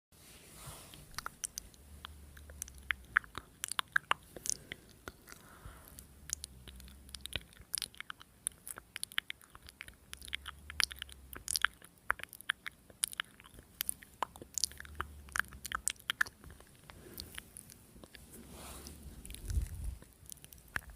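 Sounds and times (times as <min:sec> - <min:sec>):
crunching in a person's mouth: 0:01.1 - 0:18.2, 0:19.2 - 0:20.9.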